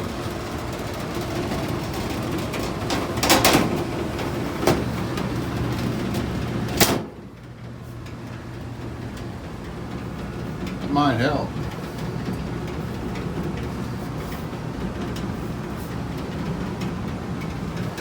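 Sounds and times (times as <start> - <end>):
furnace blower humming: 0.0 - 18.0.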